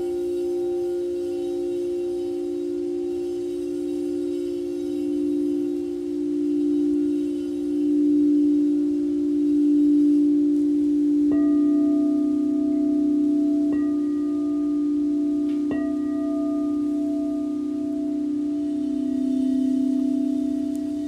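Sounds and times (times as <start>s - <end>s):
high singing bowl struck: 0.0s - 21.0s
low singing bowl ringing: 0.0s - 21.0s.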